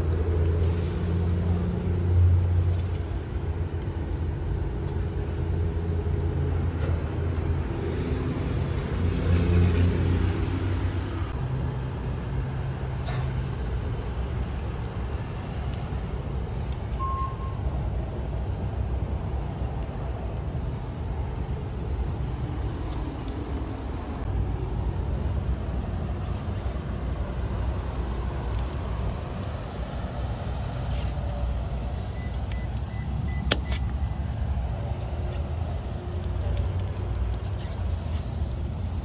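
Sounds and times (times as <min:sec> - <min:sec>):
low rumble of road traffic: 0:00.0 - 0:39.0.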